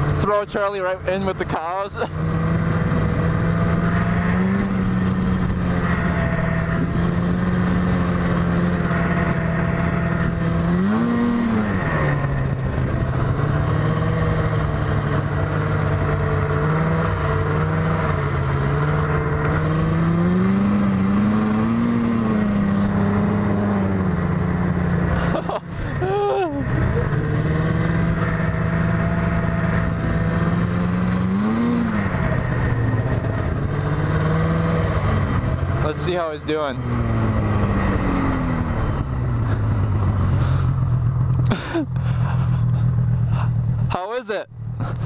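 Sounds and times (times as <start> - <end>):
snowmobile engine running: 0.0 - 45.0.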